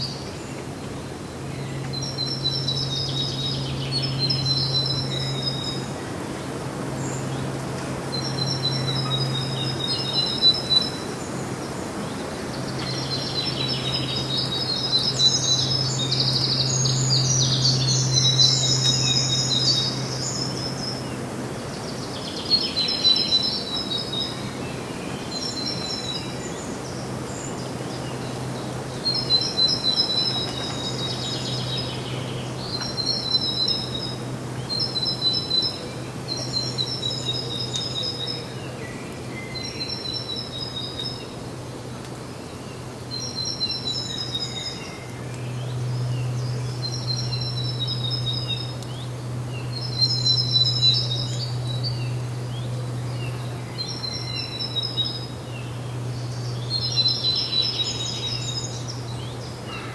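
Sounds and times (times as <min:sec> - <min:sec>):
songbird singing high chirps: 0:00.0 - 0:41.4, 0:42.4 - 0:59.9.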